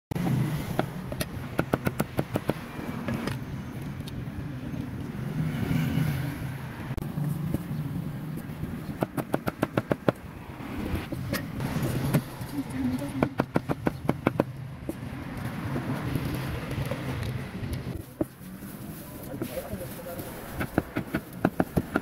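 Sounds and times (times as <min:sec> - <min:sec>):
street traffic hum: 0:00.1 - 0:22.0.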